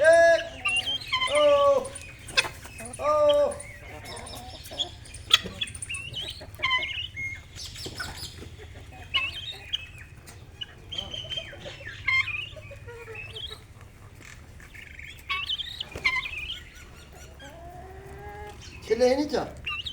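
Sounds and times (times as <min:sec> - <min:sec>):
birds chirping: 0:00.0 - 0:19.9
chickens clucking: 0:00.0 - 0:19.9.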